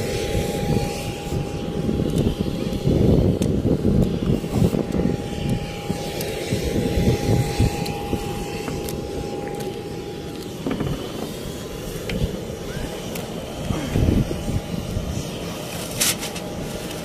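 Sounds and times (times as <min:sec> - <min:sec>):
distant aircraft whine: 0:00.0 - 0:17.0
wind rumbling on microphone: 0:00.0 - 0:17.0.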